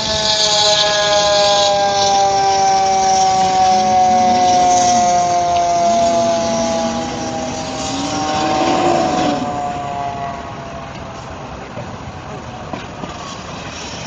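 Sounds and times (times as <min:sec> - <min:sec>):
road vehicle passing: 0:00.0 - 0:14.0
traffic noise: 0:00.0 - 0:14.0.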